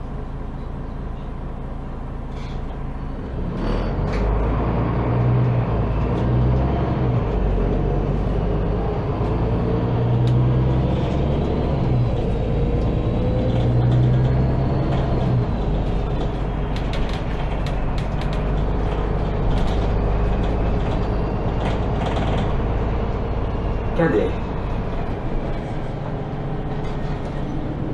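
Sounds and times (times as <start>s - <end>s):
bus engine hum: 0.0s - 27.9s
road noise: 0.0s - 27.9s.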